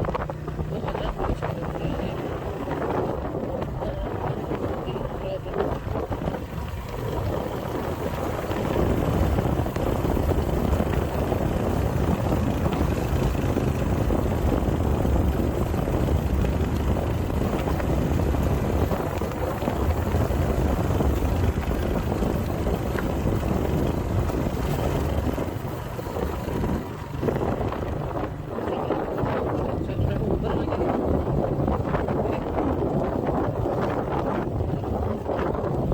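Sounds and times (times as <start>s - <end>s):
motorcycle engine running: 0.0s - 35.9s
wind rushing over microphone: 0.0s - 35.9s.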